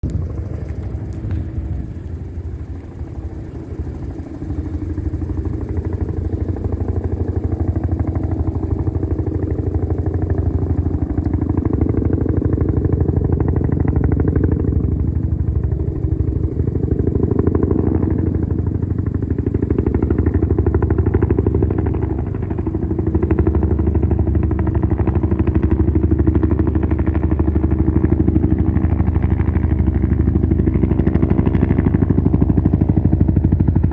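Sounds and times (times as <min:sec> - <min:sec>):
helicopter rotor chopping: 0:00.0 - 0:33.9.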